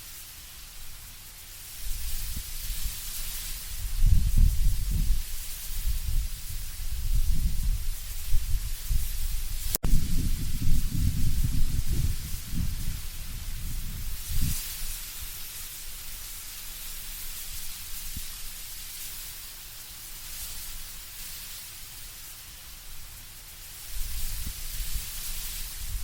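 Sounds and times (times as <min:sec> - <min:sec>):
leaves rustling in wind: 0:00.0 - 0:26.0
low rumble of wind gusts: 0:00.2 - 0:21.1, 0:22.7 - 0:26.0.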